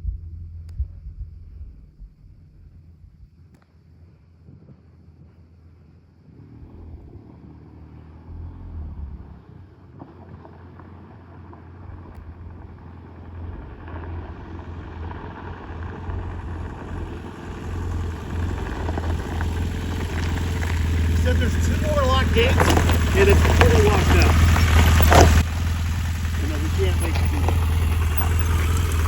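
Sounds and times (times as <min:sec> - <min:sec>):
motorcycle engine approaching: 0:04.8 - 0:29.0.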